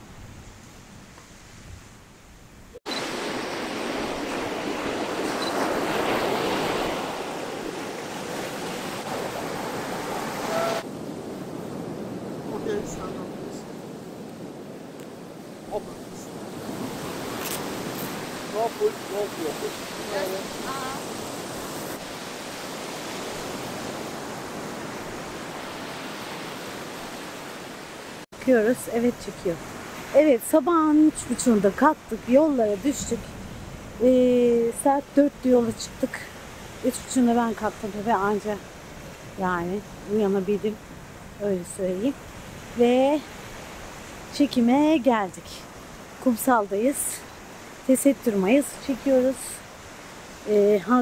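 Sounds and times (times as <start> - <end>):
faint outdoor hiss: 0.0 - 4.2, 8.8 - 51.0
sea surf washing onto beach: 2.8 - 51.0.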